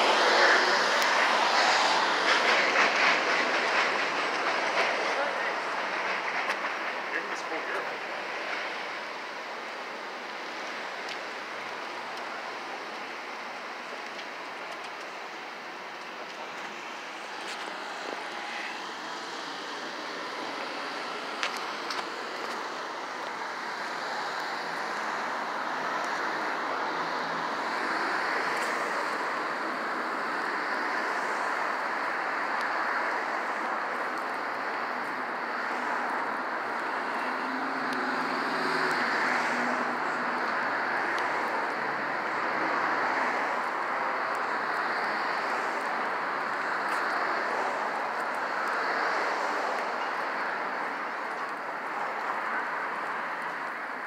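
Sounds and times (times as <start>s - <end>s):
passing cars road noise: 0.0s - 54.0s.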